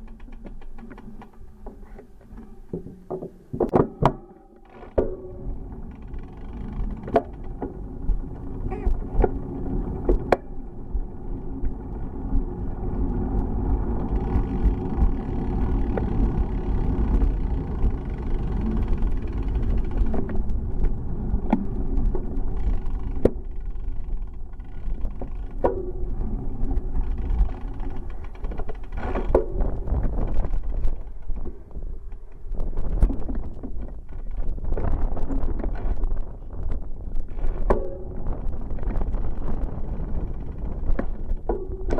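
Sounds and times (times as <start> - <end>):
bicycle knocks and rattles: 0.0 - 41.9
bicycle tyres rumbling: 0.0 - 41.9
wind on microphone: 5.3 - 41.9.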